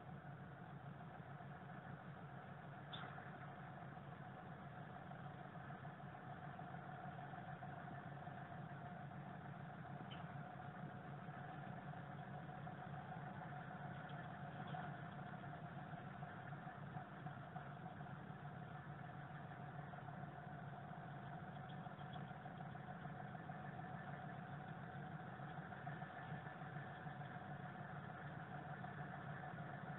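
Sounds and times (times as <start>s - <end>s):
diesel train engine idling: 0.0s - 29.9s.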